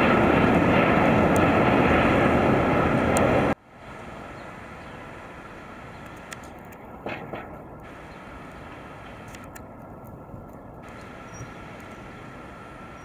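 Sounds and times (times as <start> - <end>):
jet engines at takeoff thrust: 0.0 - 13.0
quiet aircraft engine hum: 0.0 - 13.0.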